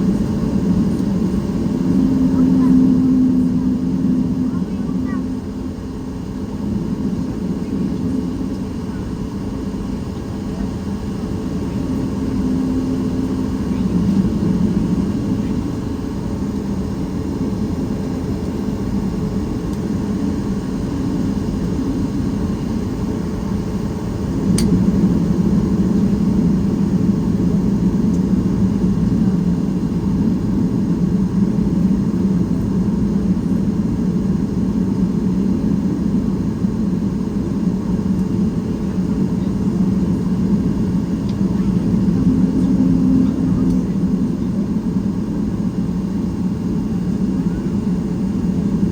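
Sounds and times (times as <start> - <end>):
airliner cabin hum: 0.0 - 48.9.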